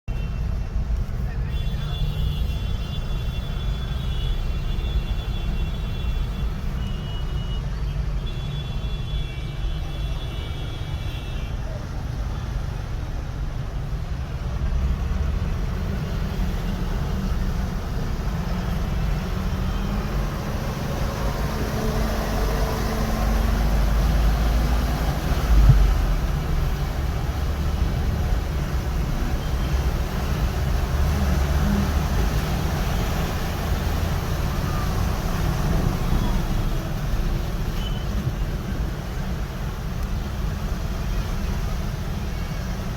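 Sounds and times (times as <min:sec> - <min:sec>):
traffic rumble: 0:00.0 - 0:42.9.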